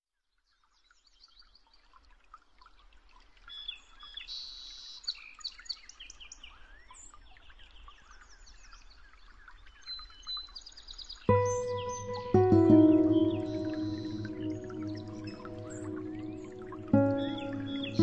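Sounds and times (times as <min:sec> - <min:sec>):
songbirds singing and chirping: 0:03.5 - 0:18.0.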